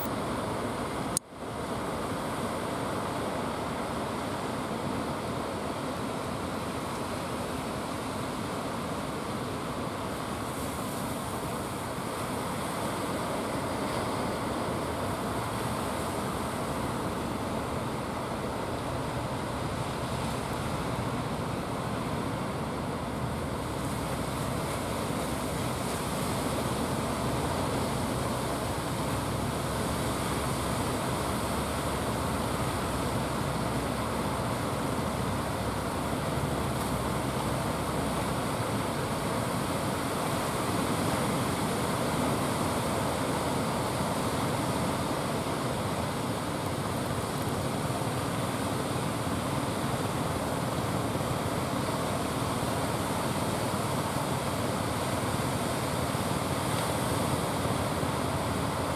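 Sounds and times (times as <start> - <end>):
ocean surf breaking: 0.2 - 58.9.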